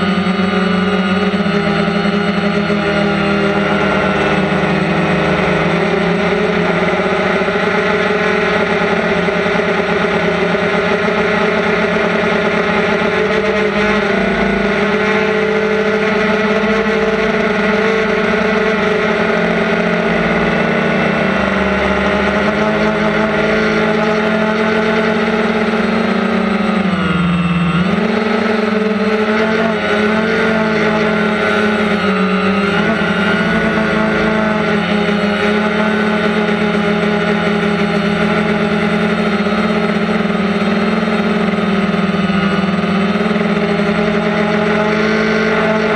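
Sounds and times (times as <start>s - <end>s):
drone motors and propellers whining: 0.0s - 45.9s.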